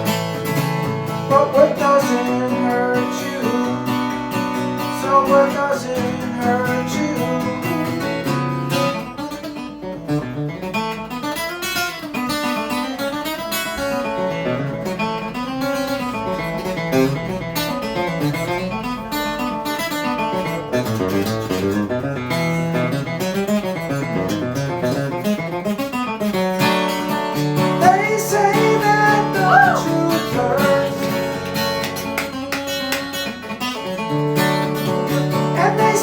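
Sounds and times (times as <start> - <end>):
acoustic guitar strumming and picking: 0.0 - 36.0.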